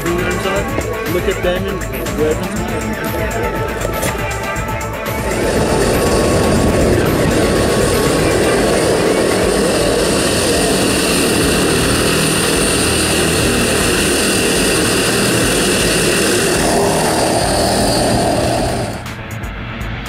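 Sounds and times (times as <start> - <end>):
propeller engines droning: 0.0 - 20.0.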